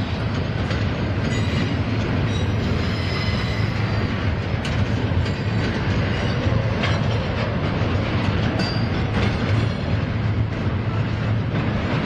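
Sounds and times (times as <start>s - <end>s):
freight train rumbling by: 0.0s - 12.0s
wheels clacking over rail joints: 0.0s - 12.0s.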